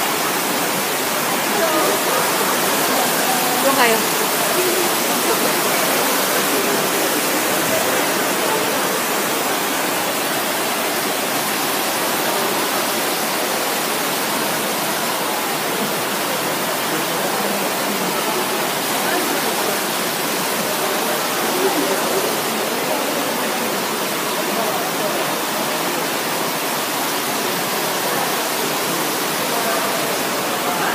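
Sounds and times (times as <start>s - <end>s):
fountain water splashing into basin: 0.0s - 30.9s.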